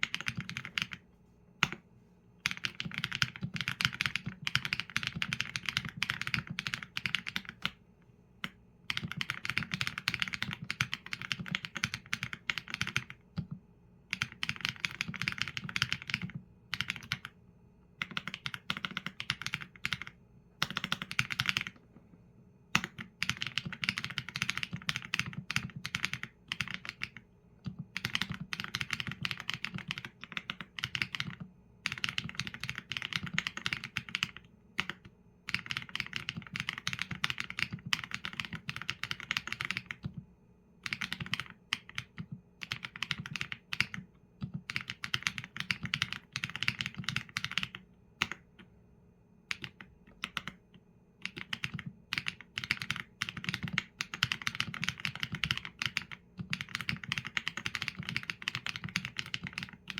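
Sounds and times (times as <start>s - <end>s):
mechanical keyboard typing: 0.0s - 1.0s, 2.4s - 7.8s, 8.4s - 17.4s, 18.0s - 21.8s, 22.7s - 40.2s, 40.8s - 48.7s, 49.5s - 50.6s, 51.2s - 59.9s.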